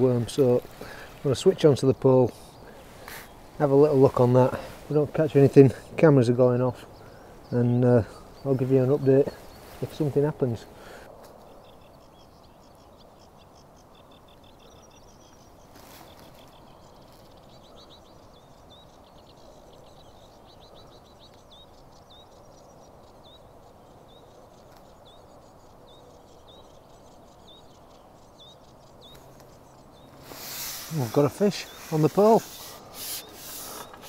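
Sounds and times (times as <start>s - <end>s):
faint outdoor hiss: 0.0s - 34.0s
small birds calling: 0.0s - 34.0s.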